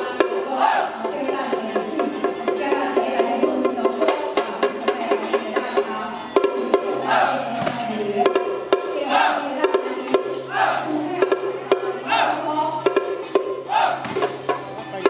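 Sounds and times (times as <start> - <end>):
drum gongs and cymbals band: 0.0 - 15.0.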